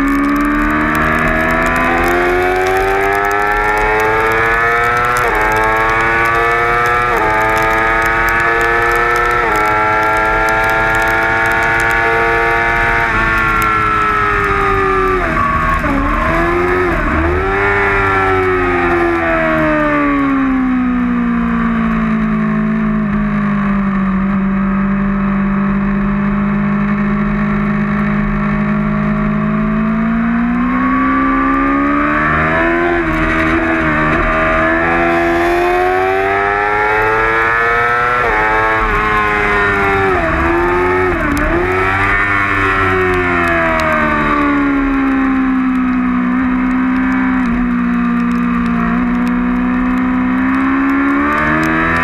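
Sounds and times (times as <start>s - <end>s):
motorcycle engine racing: 0.0s - 52.0s.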